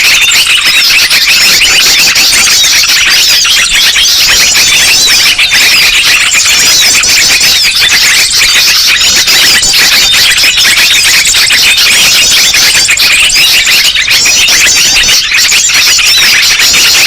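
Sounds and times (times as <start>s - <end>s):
songbirds chattering and calling: 0.0s - 17.0s.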